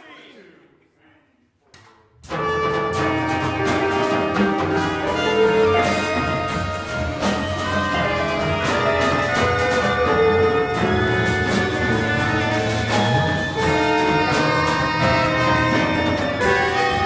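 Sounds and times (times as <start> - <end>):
jazz ensemble playing: 2.2 - 17.0
drum and cymbal strokes: 2.3 - 17.0.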